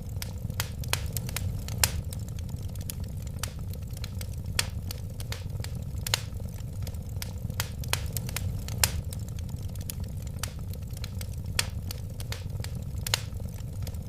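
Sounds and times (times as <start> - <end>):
fire popping and snapping: 0.0 - 14.0
low rumble of flames: 0.0 - 14.0.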